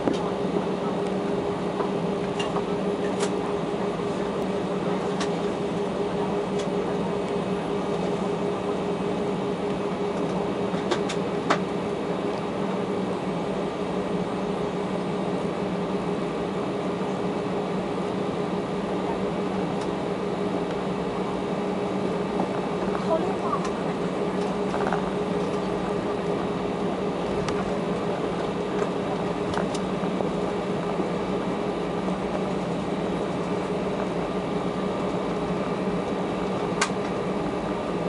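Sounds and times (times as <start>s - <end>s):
airplane cabin engine drone: 0.0s - 38.0s.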